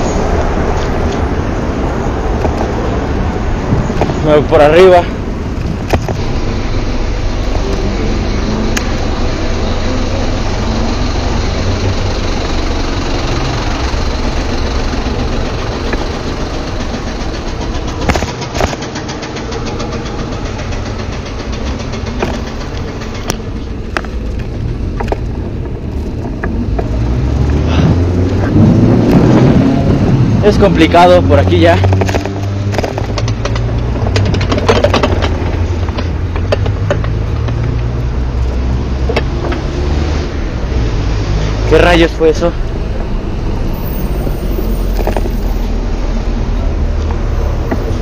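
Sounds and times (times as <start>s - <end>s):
bicycle riding noise: 0.0s - 48.0s
motor traffic hum: 0.0s - 48.0s.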